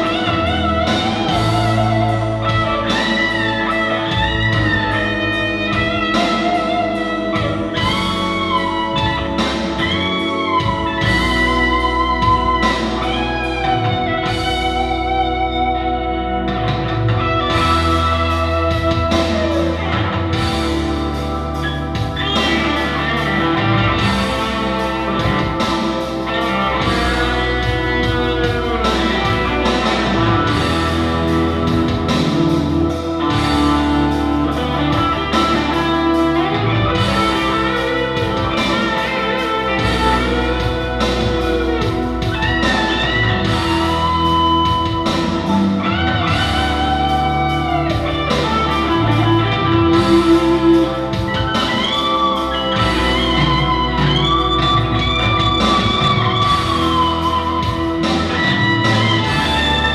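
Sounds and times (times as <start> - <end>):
bass: 0.0 - 59.9
electric guitar lead: 0.0 - 59.9
regular beat: 0.0 - 59.9.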